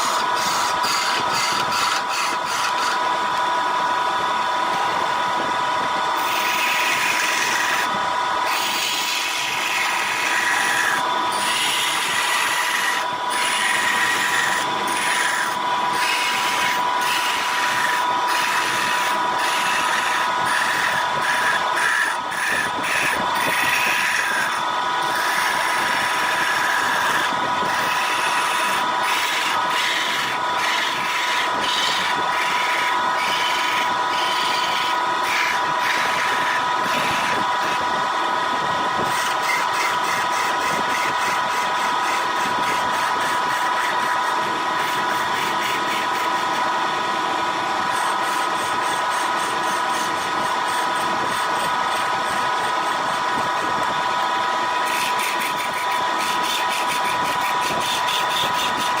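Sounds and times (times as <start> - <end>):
wood lathe motor whine: 0.0 - 59.0.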